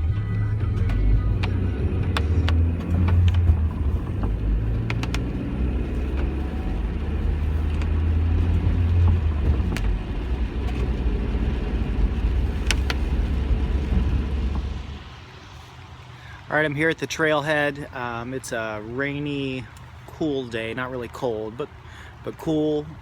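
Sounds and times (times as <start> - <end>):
car road rumble: 0.0 - 23.0.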